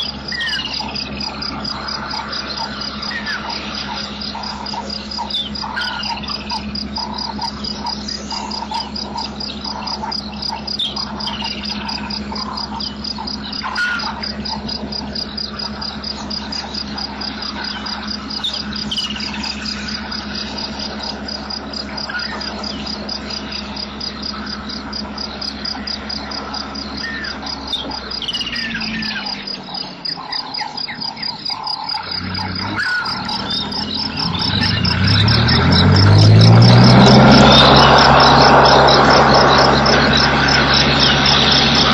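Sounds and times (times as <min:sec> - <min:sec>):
birds whistling calls: 0:00.0 - 0:41.9
low steady hum: 0:00.0 - 0:41.9
pulsing insect trill: 0:00.0 - 0:41.9.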